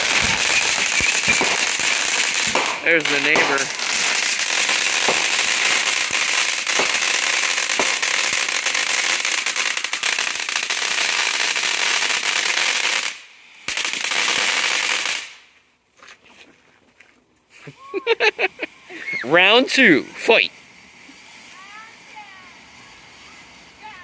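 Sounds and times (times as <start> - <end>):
firework crackling hiss: 0.0 - 15.5, 17.5 - 24.0.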